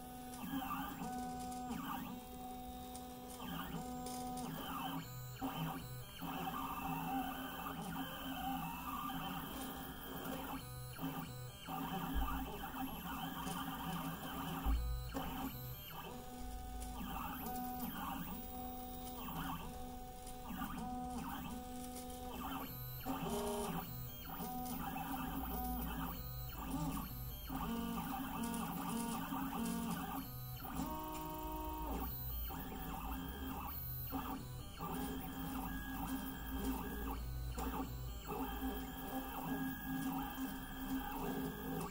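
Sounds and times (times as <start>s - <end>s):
stepper motors whining: 0.4s - 41.9s.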